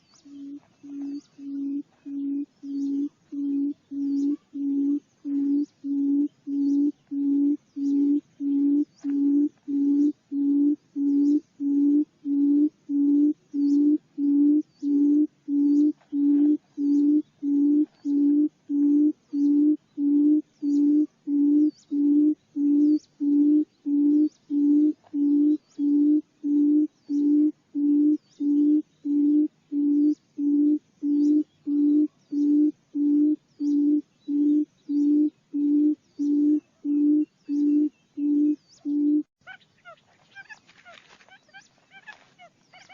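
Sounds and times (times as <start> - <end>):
deep hooting bird call: 0.0 - 40.6.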